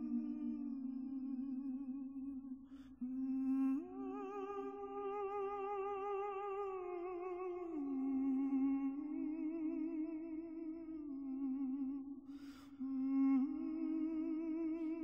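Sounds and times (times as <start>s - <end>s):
person humming a slow melody: 0.0s - 15.0s.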